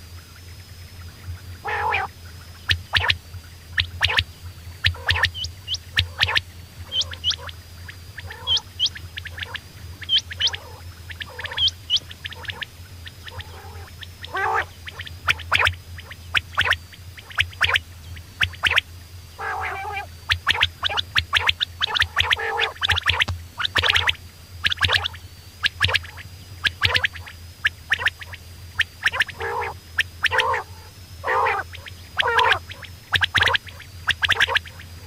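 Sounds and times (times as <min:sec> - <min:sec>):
steady low hum: 0:00.0 - 0:35.0
quail calling: 0:01.6 - 0:02.1, 0:03.8 - 0:17.8, 0:19.4 - 0:35.0
quail rattling calls: 0:01.6 - 0:02.1, 0:03.8 - 0:17.8, 0:19.4 - 0:34.8.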